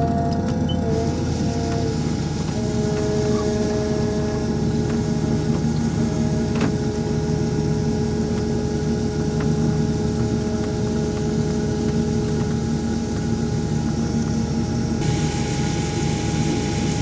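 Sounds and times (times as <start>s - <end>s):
combine harvester drone: 0.0s - 17.0s.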